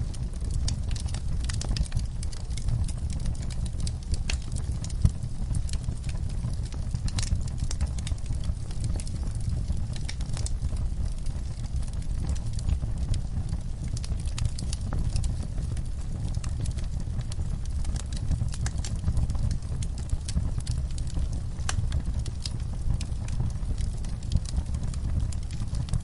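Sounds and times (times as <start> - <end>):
log fire crackling: 0.0 - 26.0.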